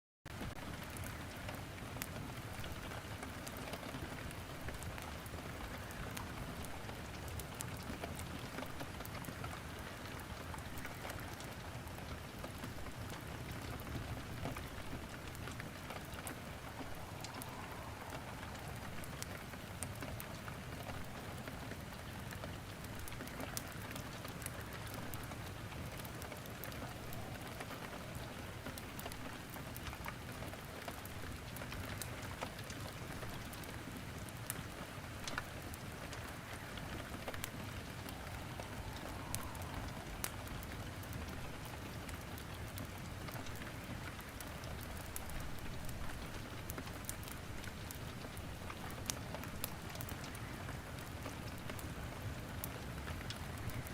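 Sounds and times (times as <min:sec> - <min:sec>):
steady rain: 0:00.3 - 0:53.9
wood crackling in a fireplace: 0:00.3 - 0:53.9.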